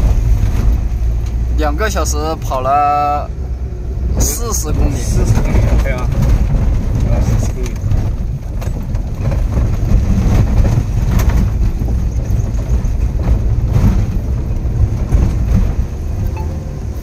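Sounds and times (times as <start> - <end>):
vehicle knocks and jolts: 0.0 - 1.6, 4.1 - 17.0
engine and road rumble: 0.0 - 17.0.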